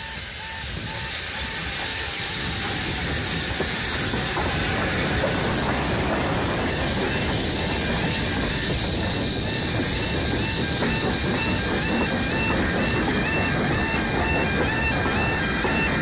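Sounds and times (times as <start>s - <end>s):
steam hissing: 0.0s - 16.0s
steam locomotive passing: 0.0s - 16.0s.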